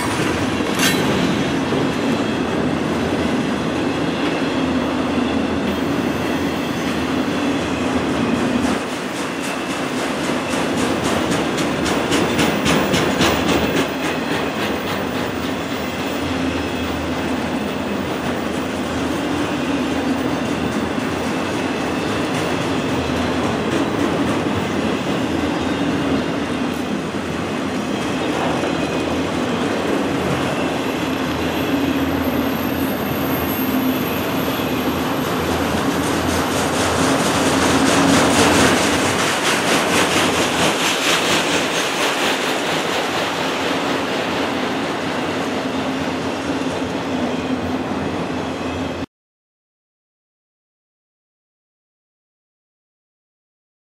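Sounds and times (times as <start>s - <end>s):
steel wheels rumbling on rail: 0.0s - 49.0s.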